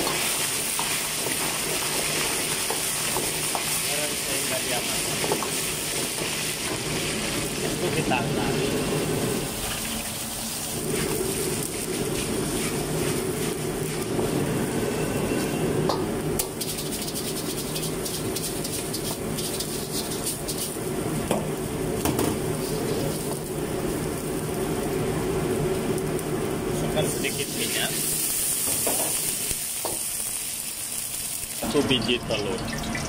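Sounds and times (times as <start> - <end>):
gas burner rushing: 0.0 - 16.7, 18.0 - 33.0.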